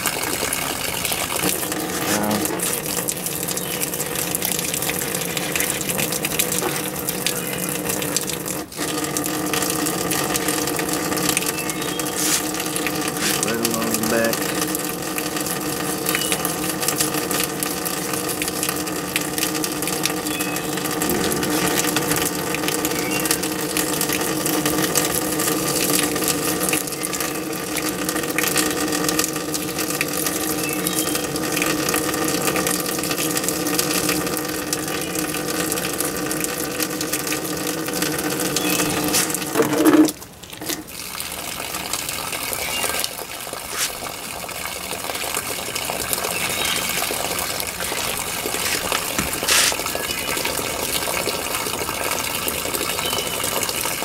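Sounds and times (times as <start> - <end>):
hose water gushing: 0.0 - 54.0.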